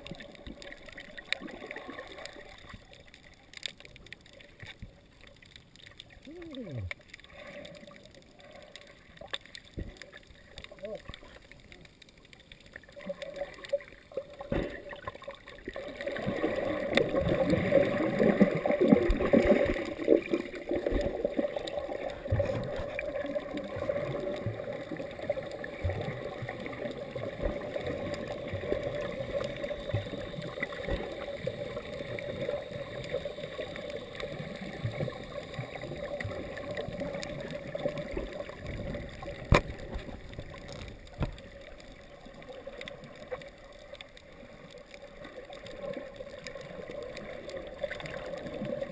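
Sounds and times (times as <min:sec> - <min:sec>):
muffled underwater sloshing: 0:00.0 - 0:48.9.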